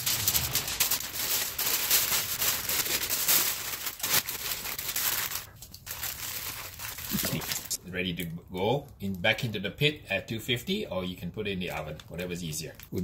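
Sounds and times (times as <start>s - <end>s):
aluminium foil crinkling: 0.0s - 9.4s, 11.6s - 13.0s.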